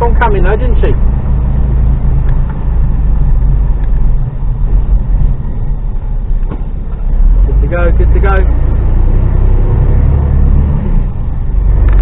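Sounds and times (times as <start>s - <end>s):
lorry diesel engine running: 0.0s - 12.0s.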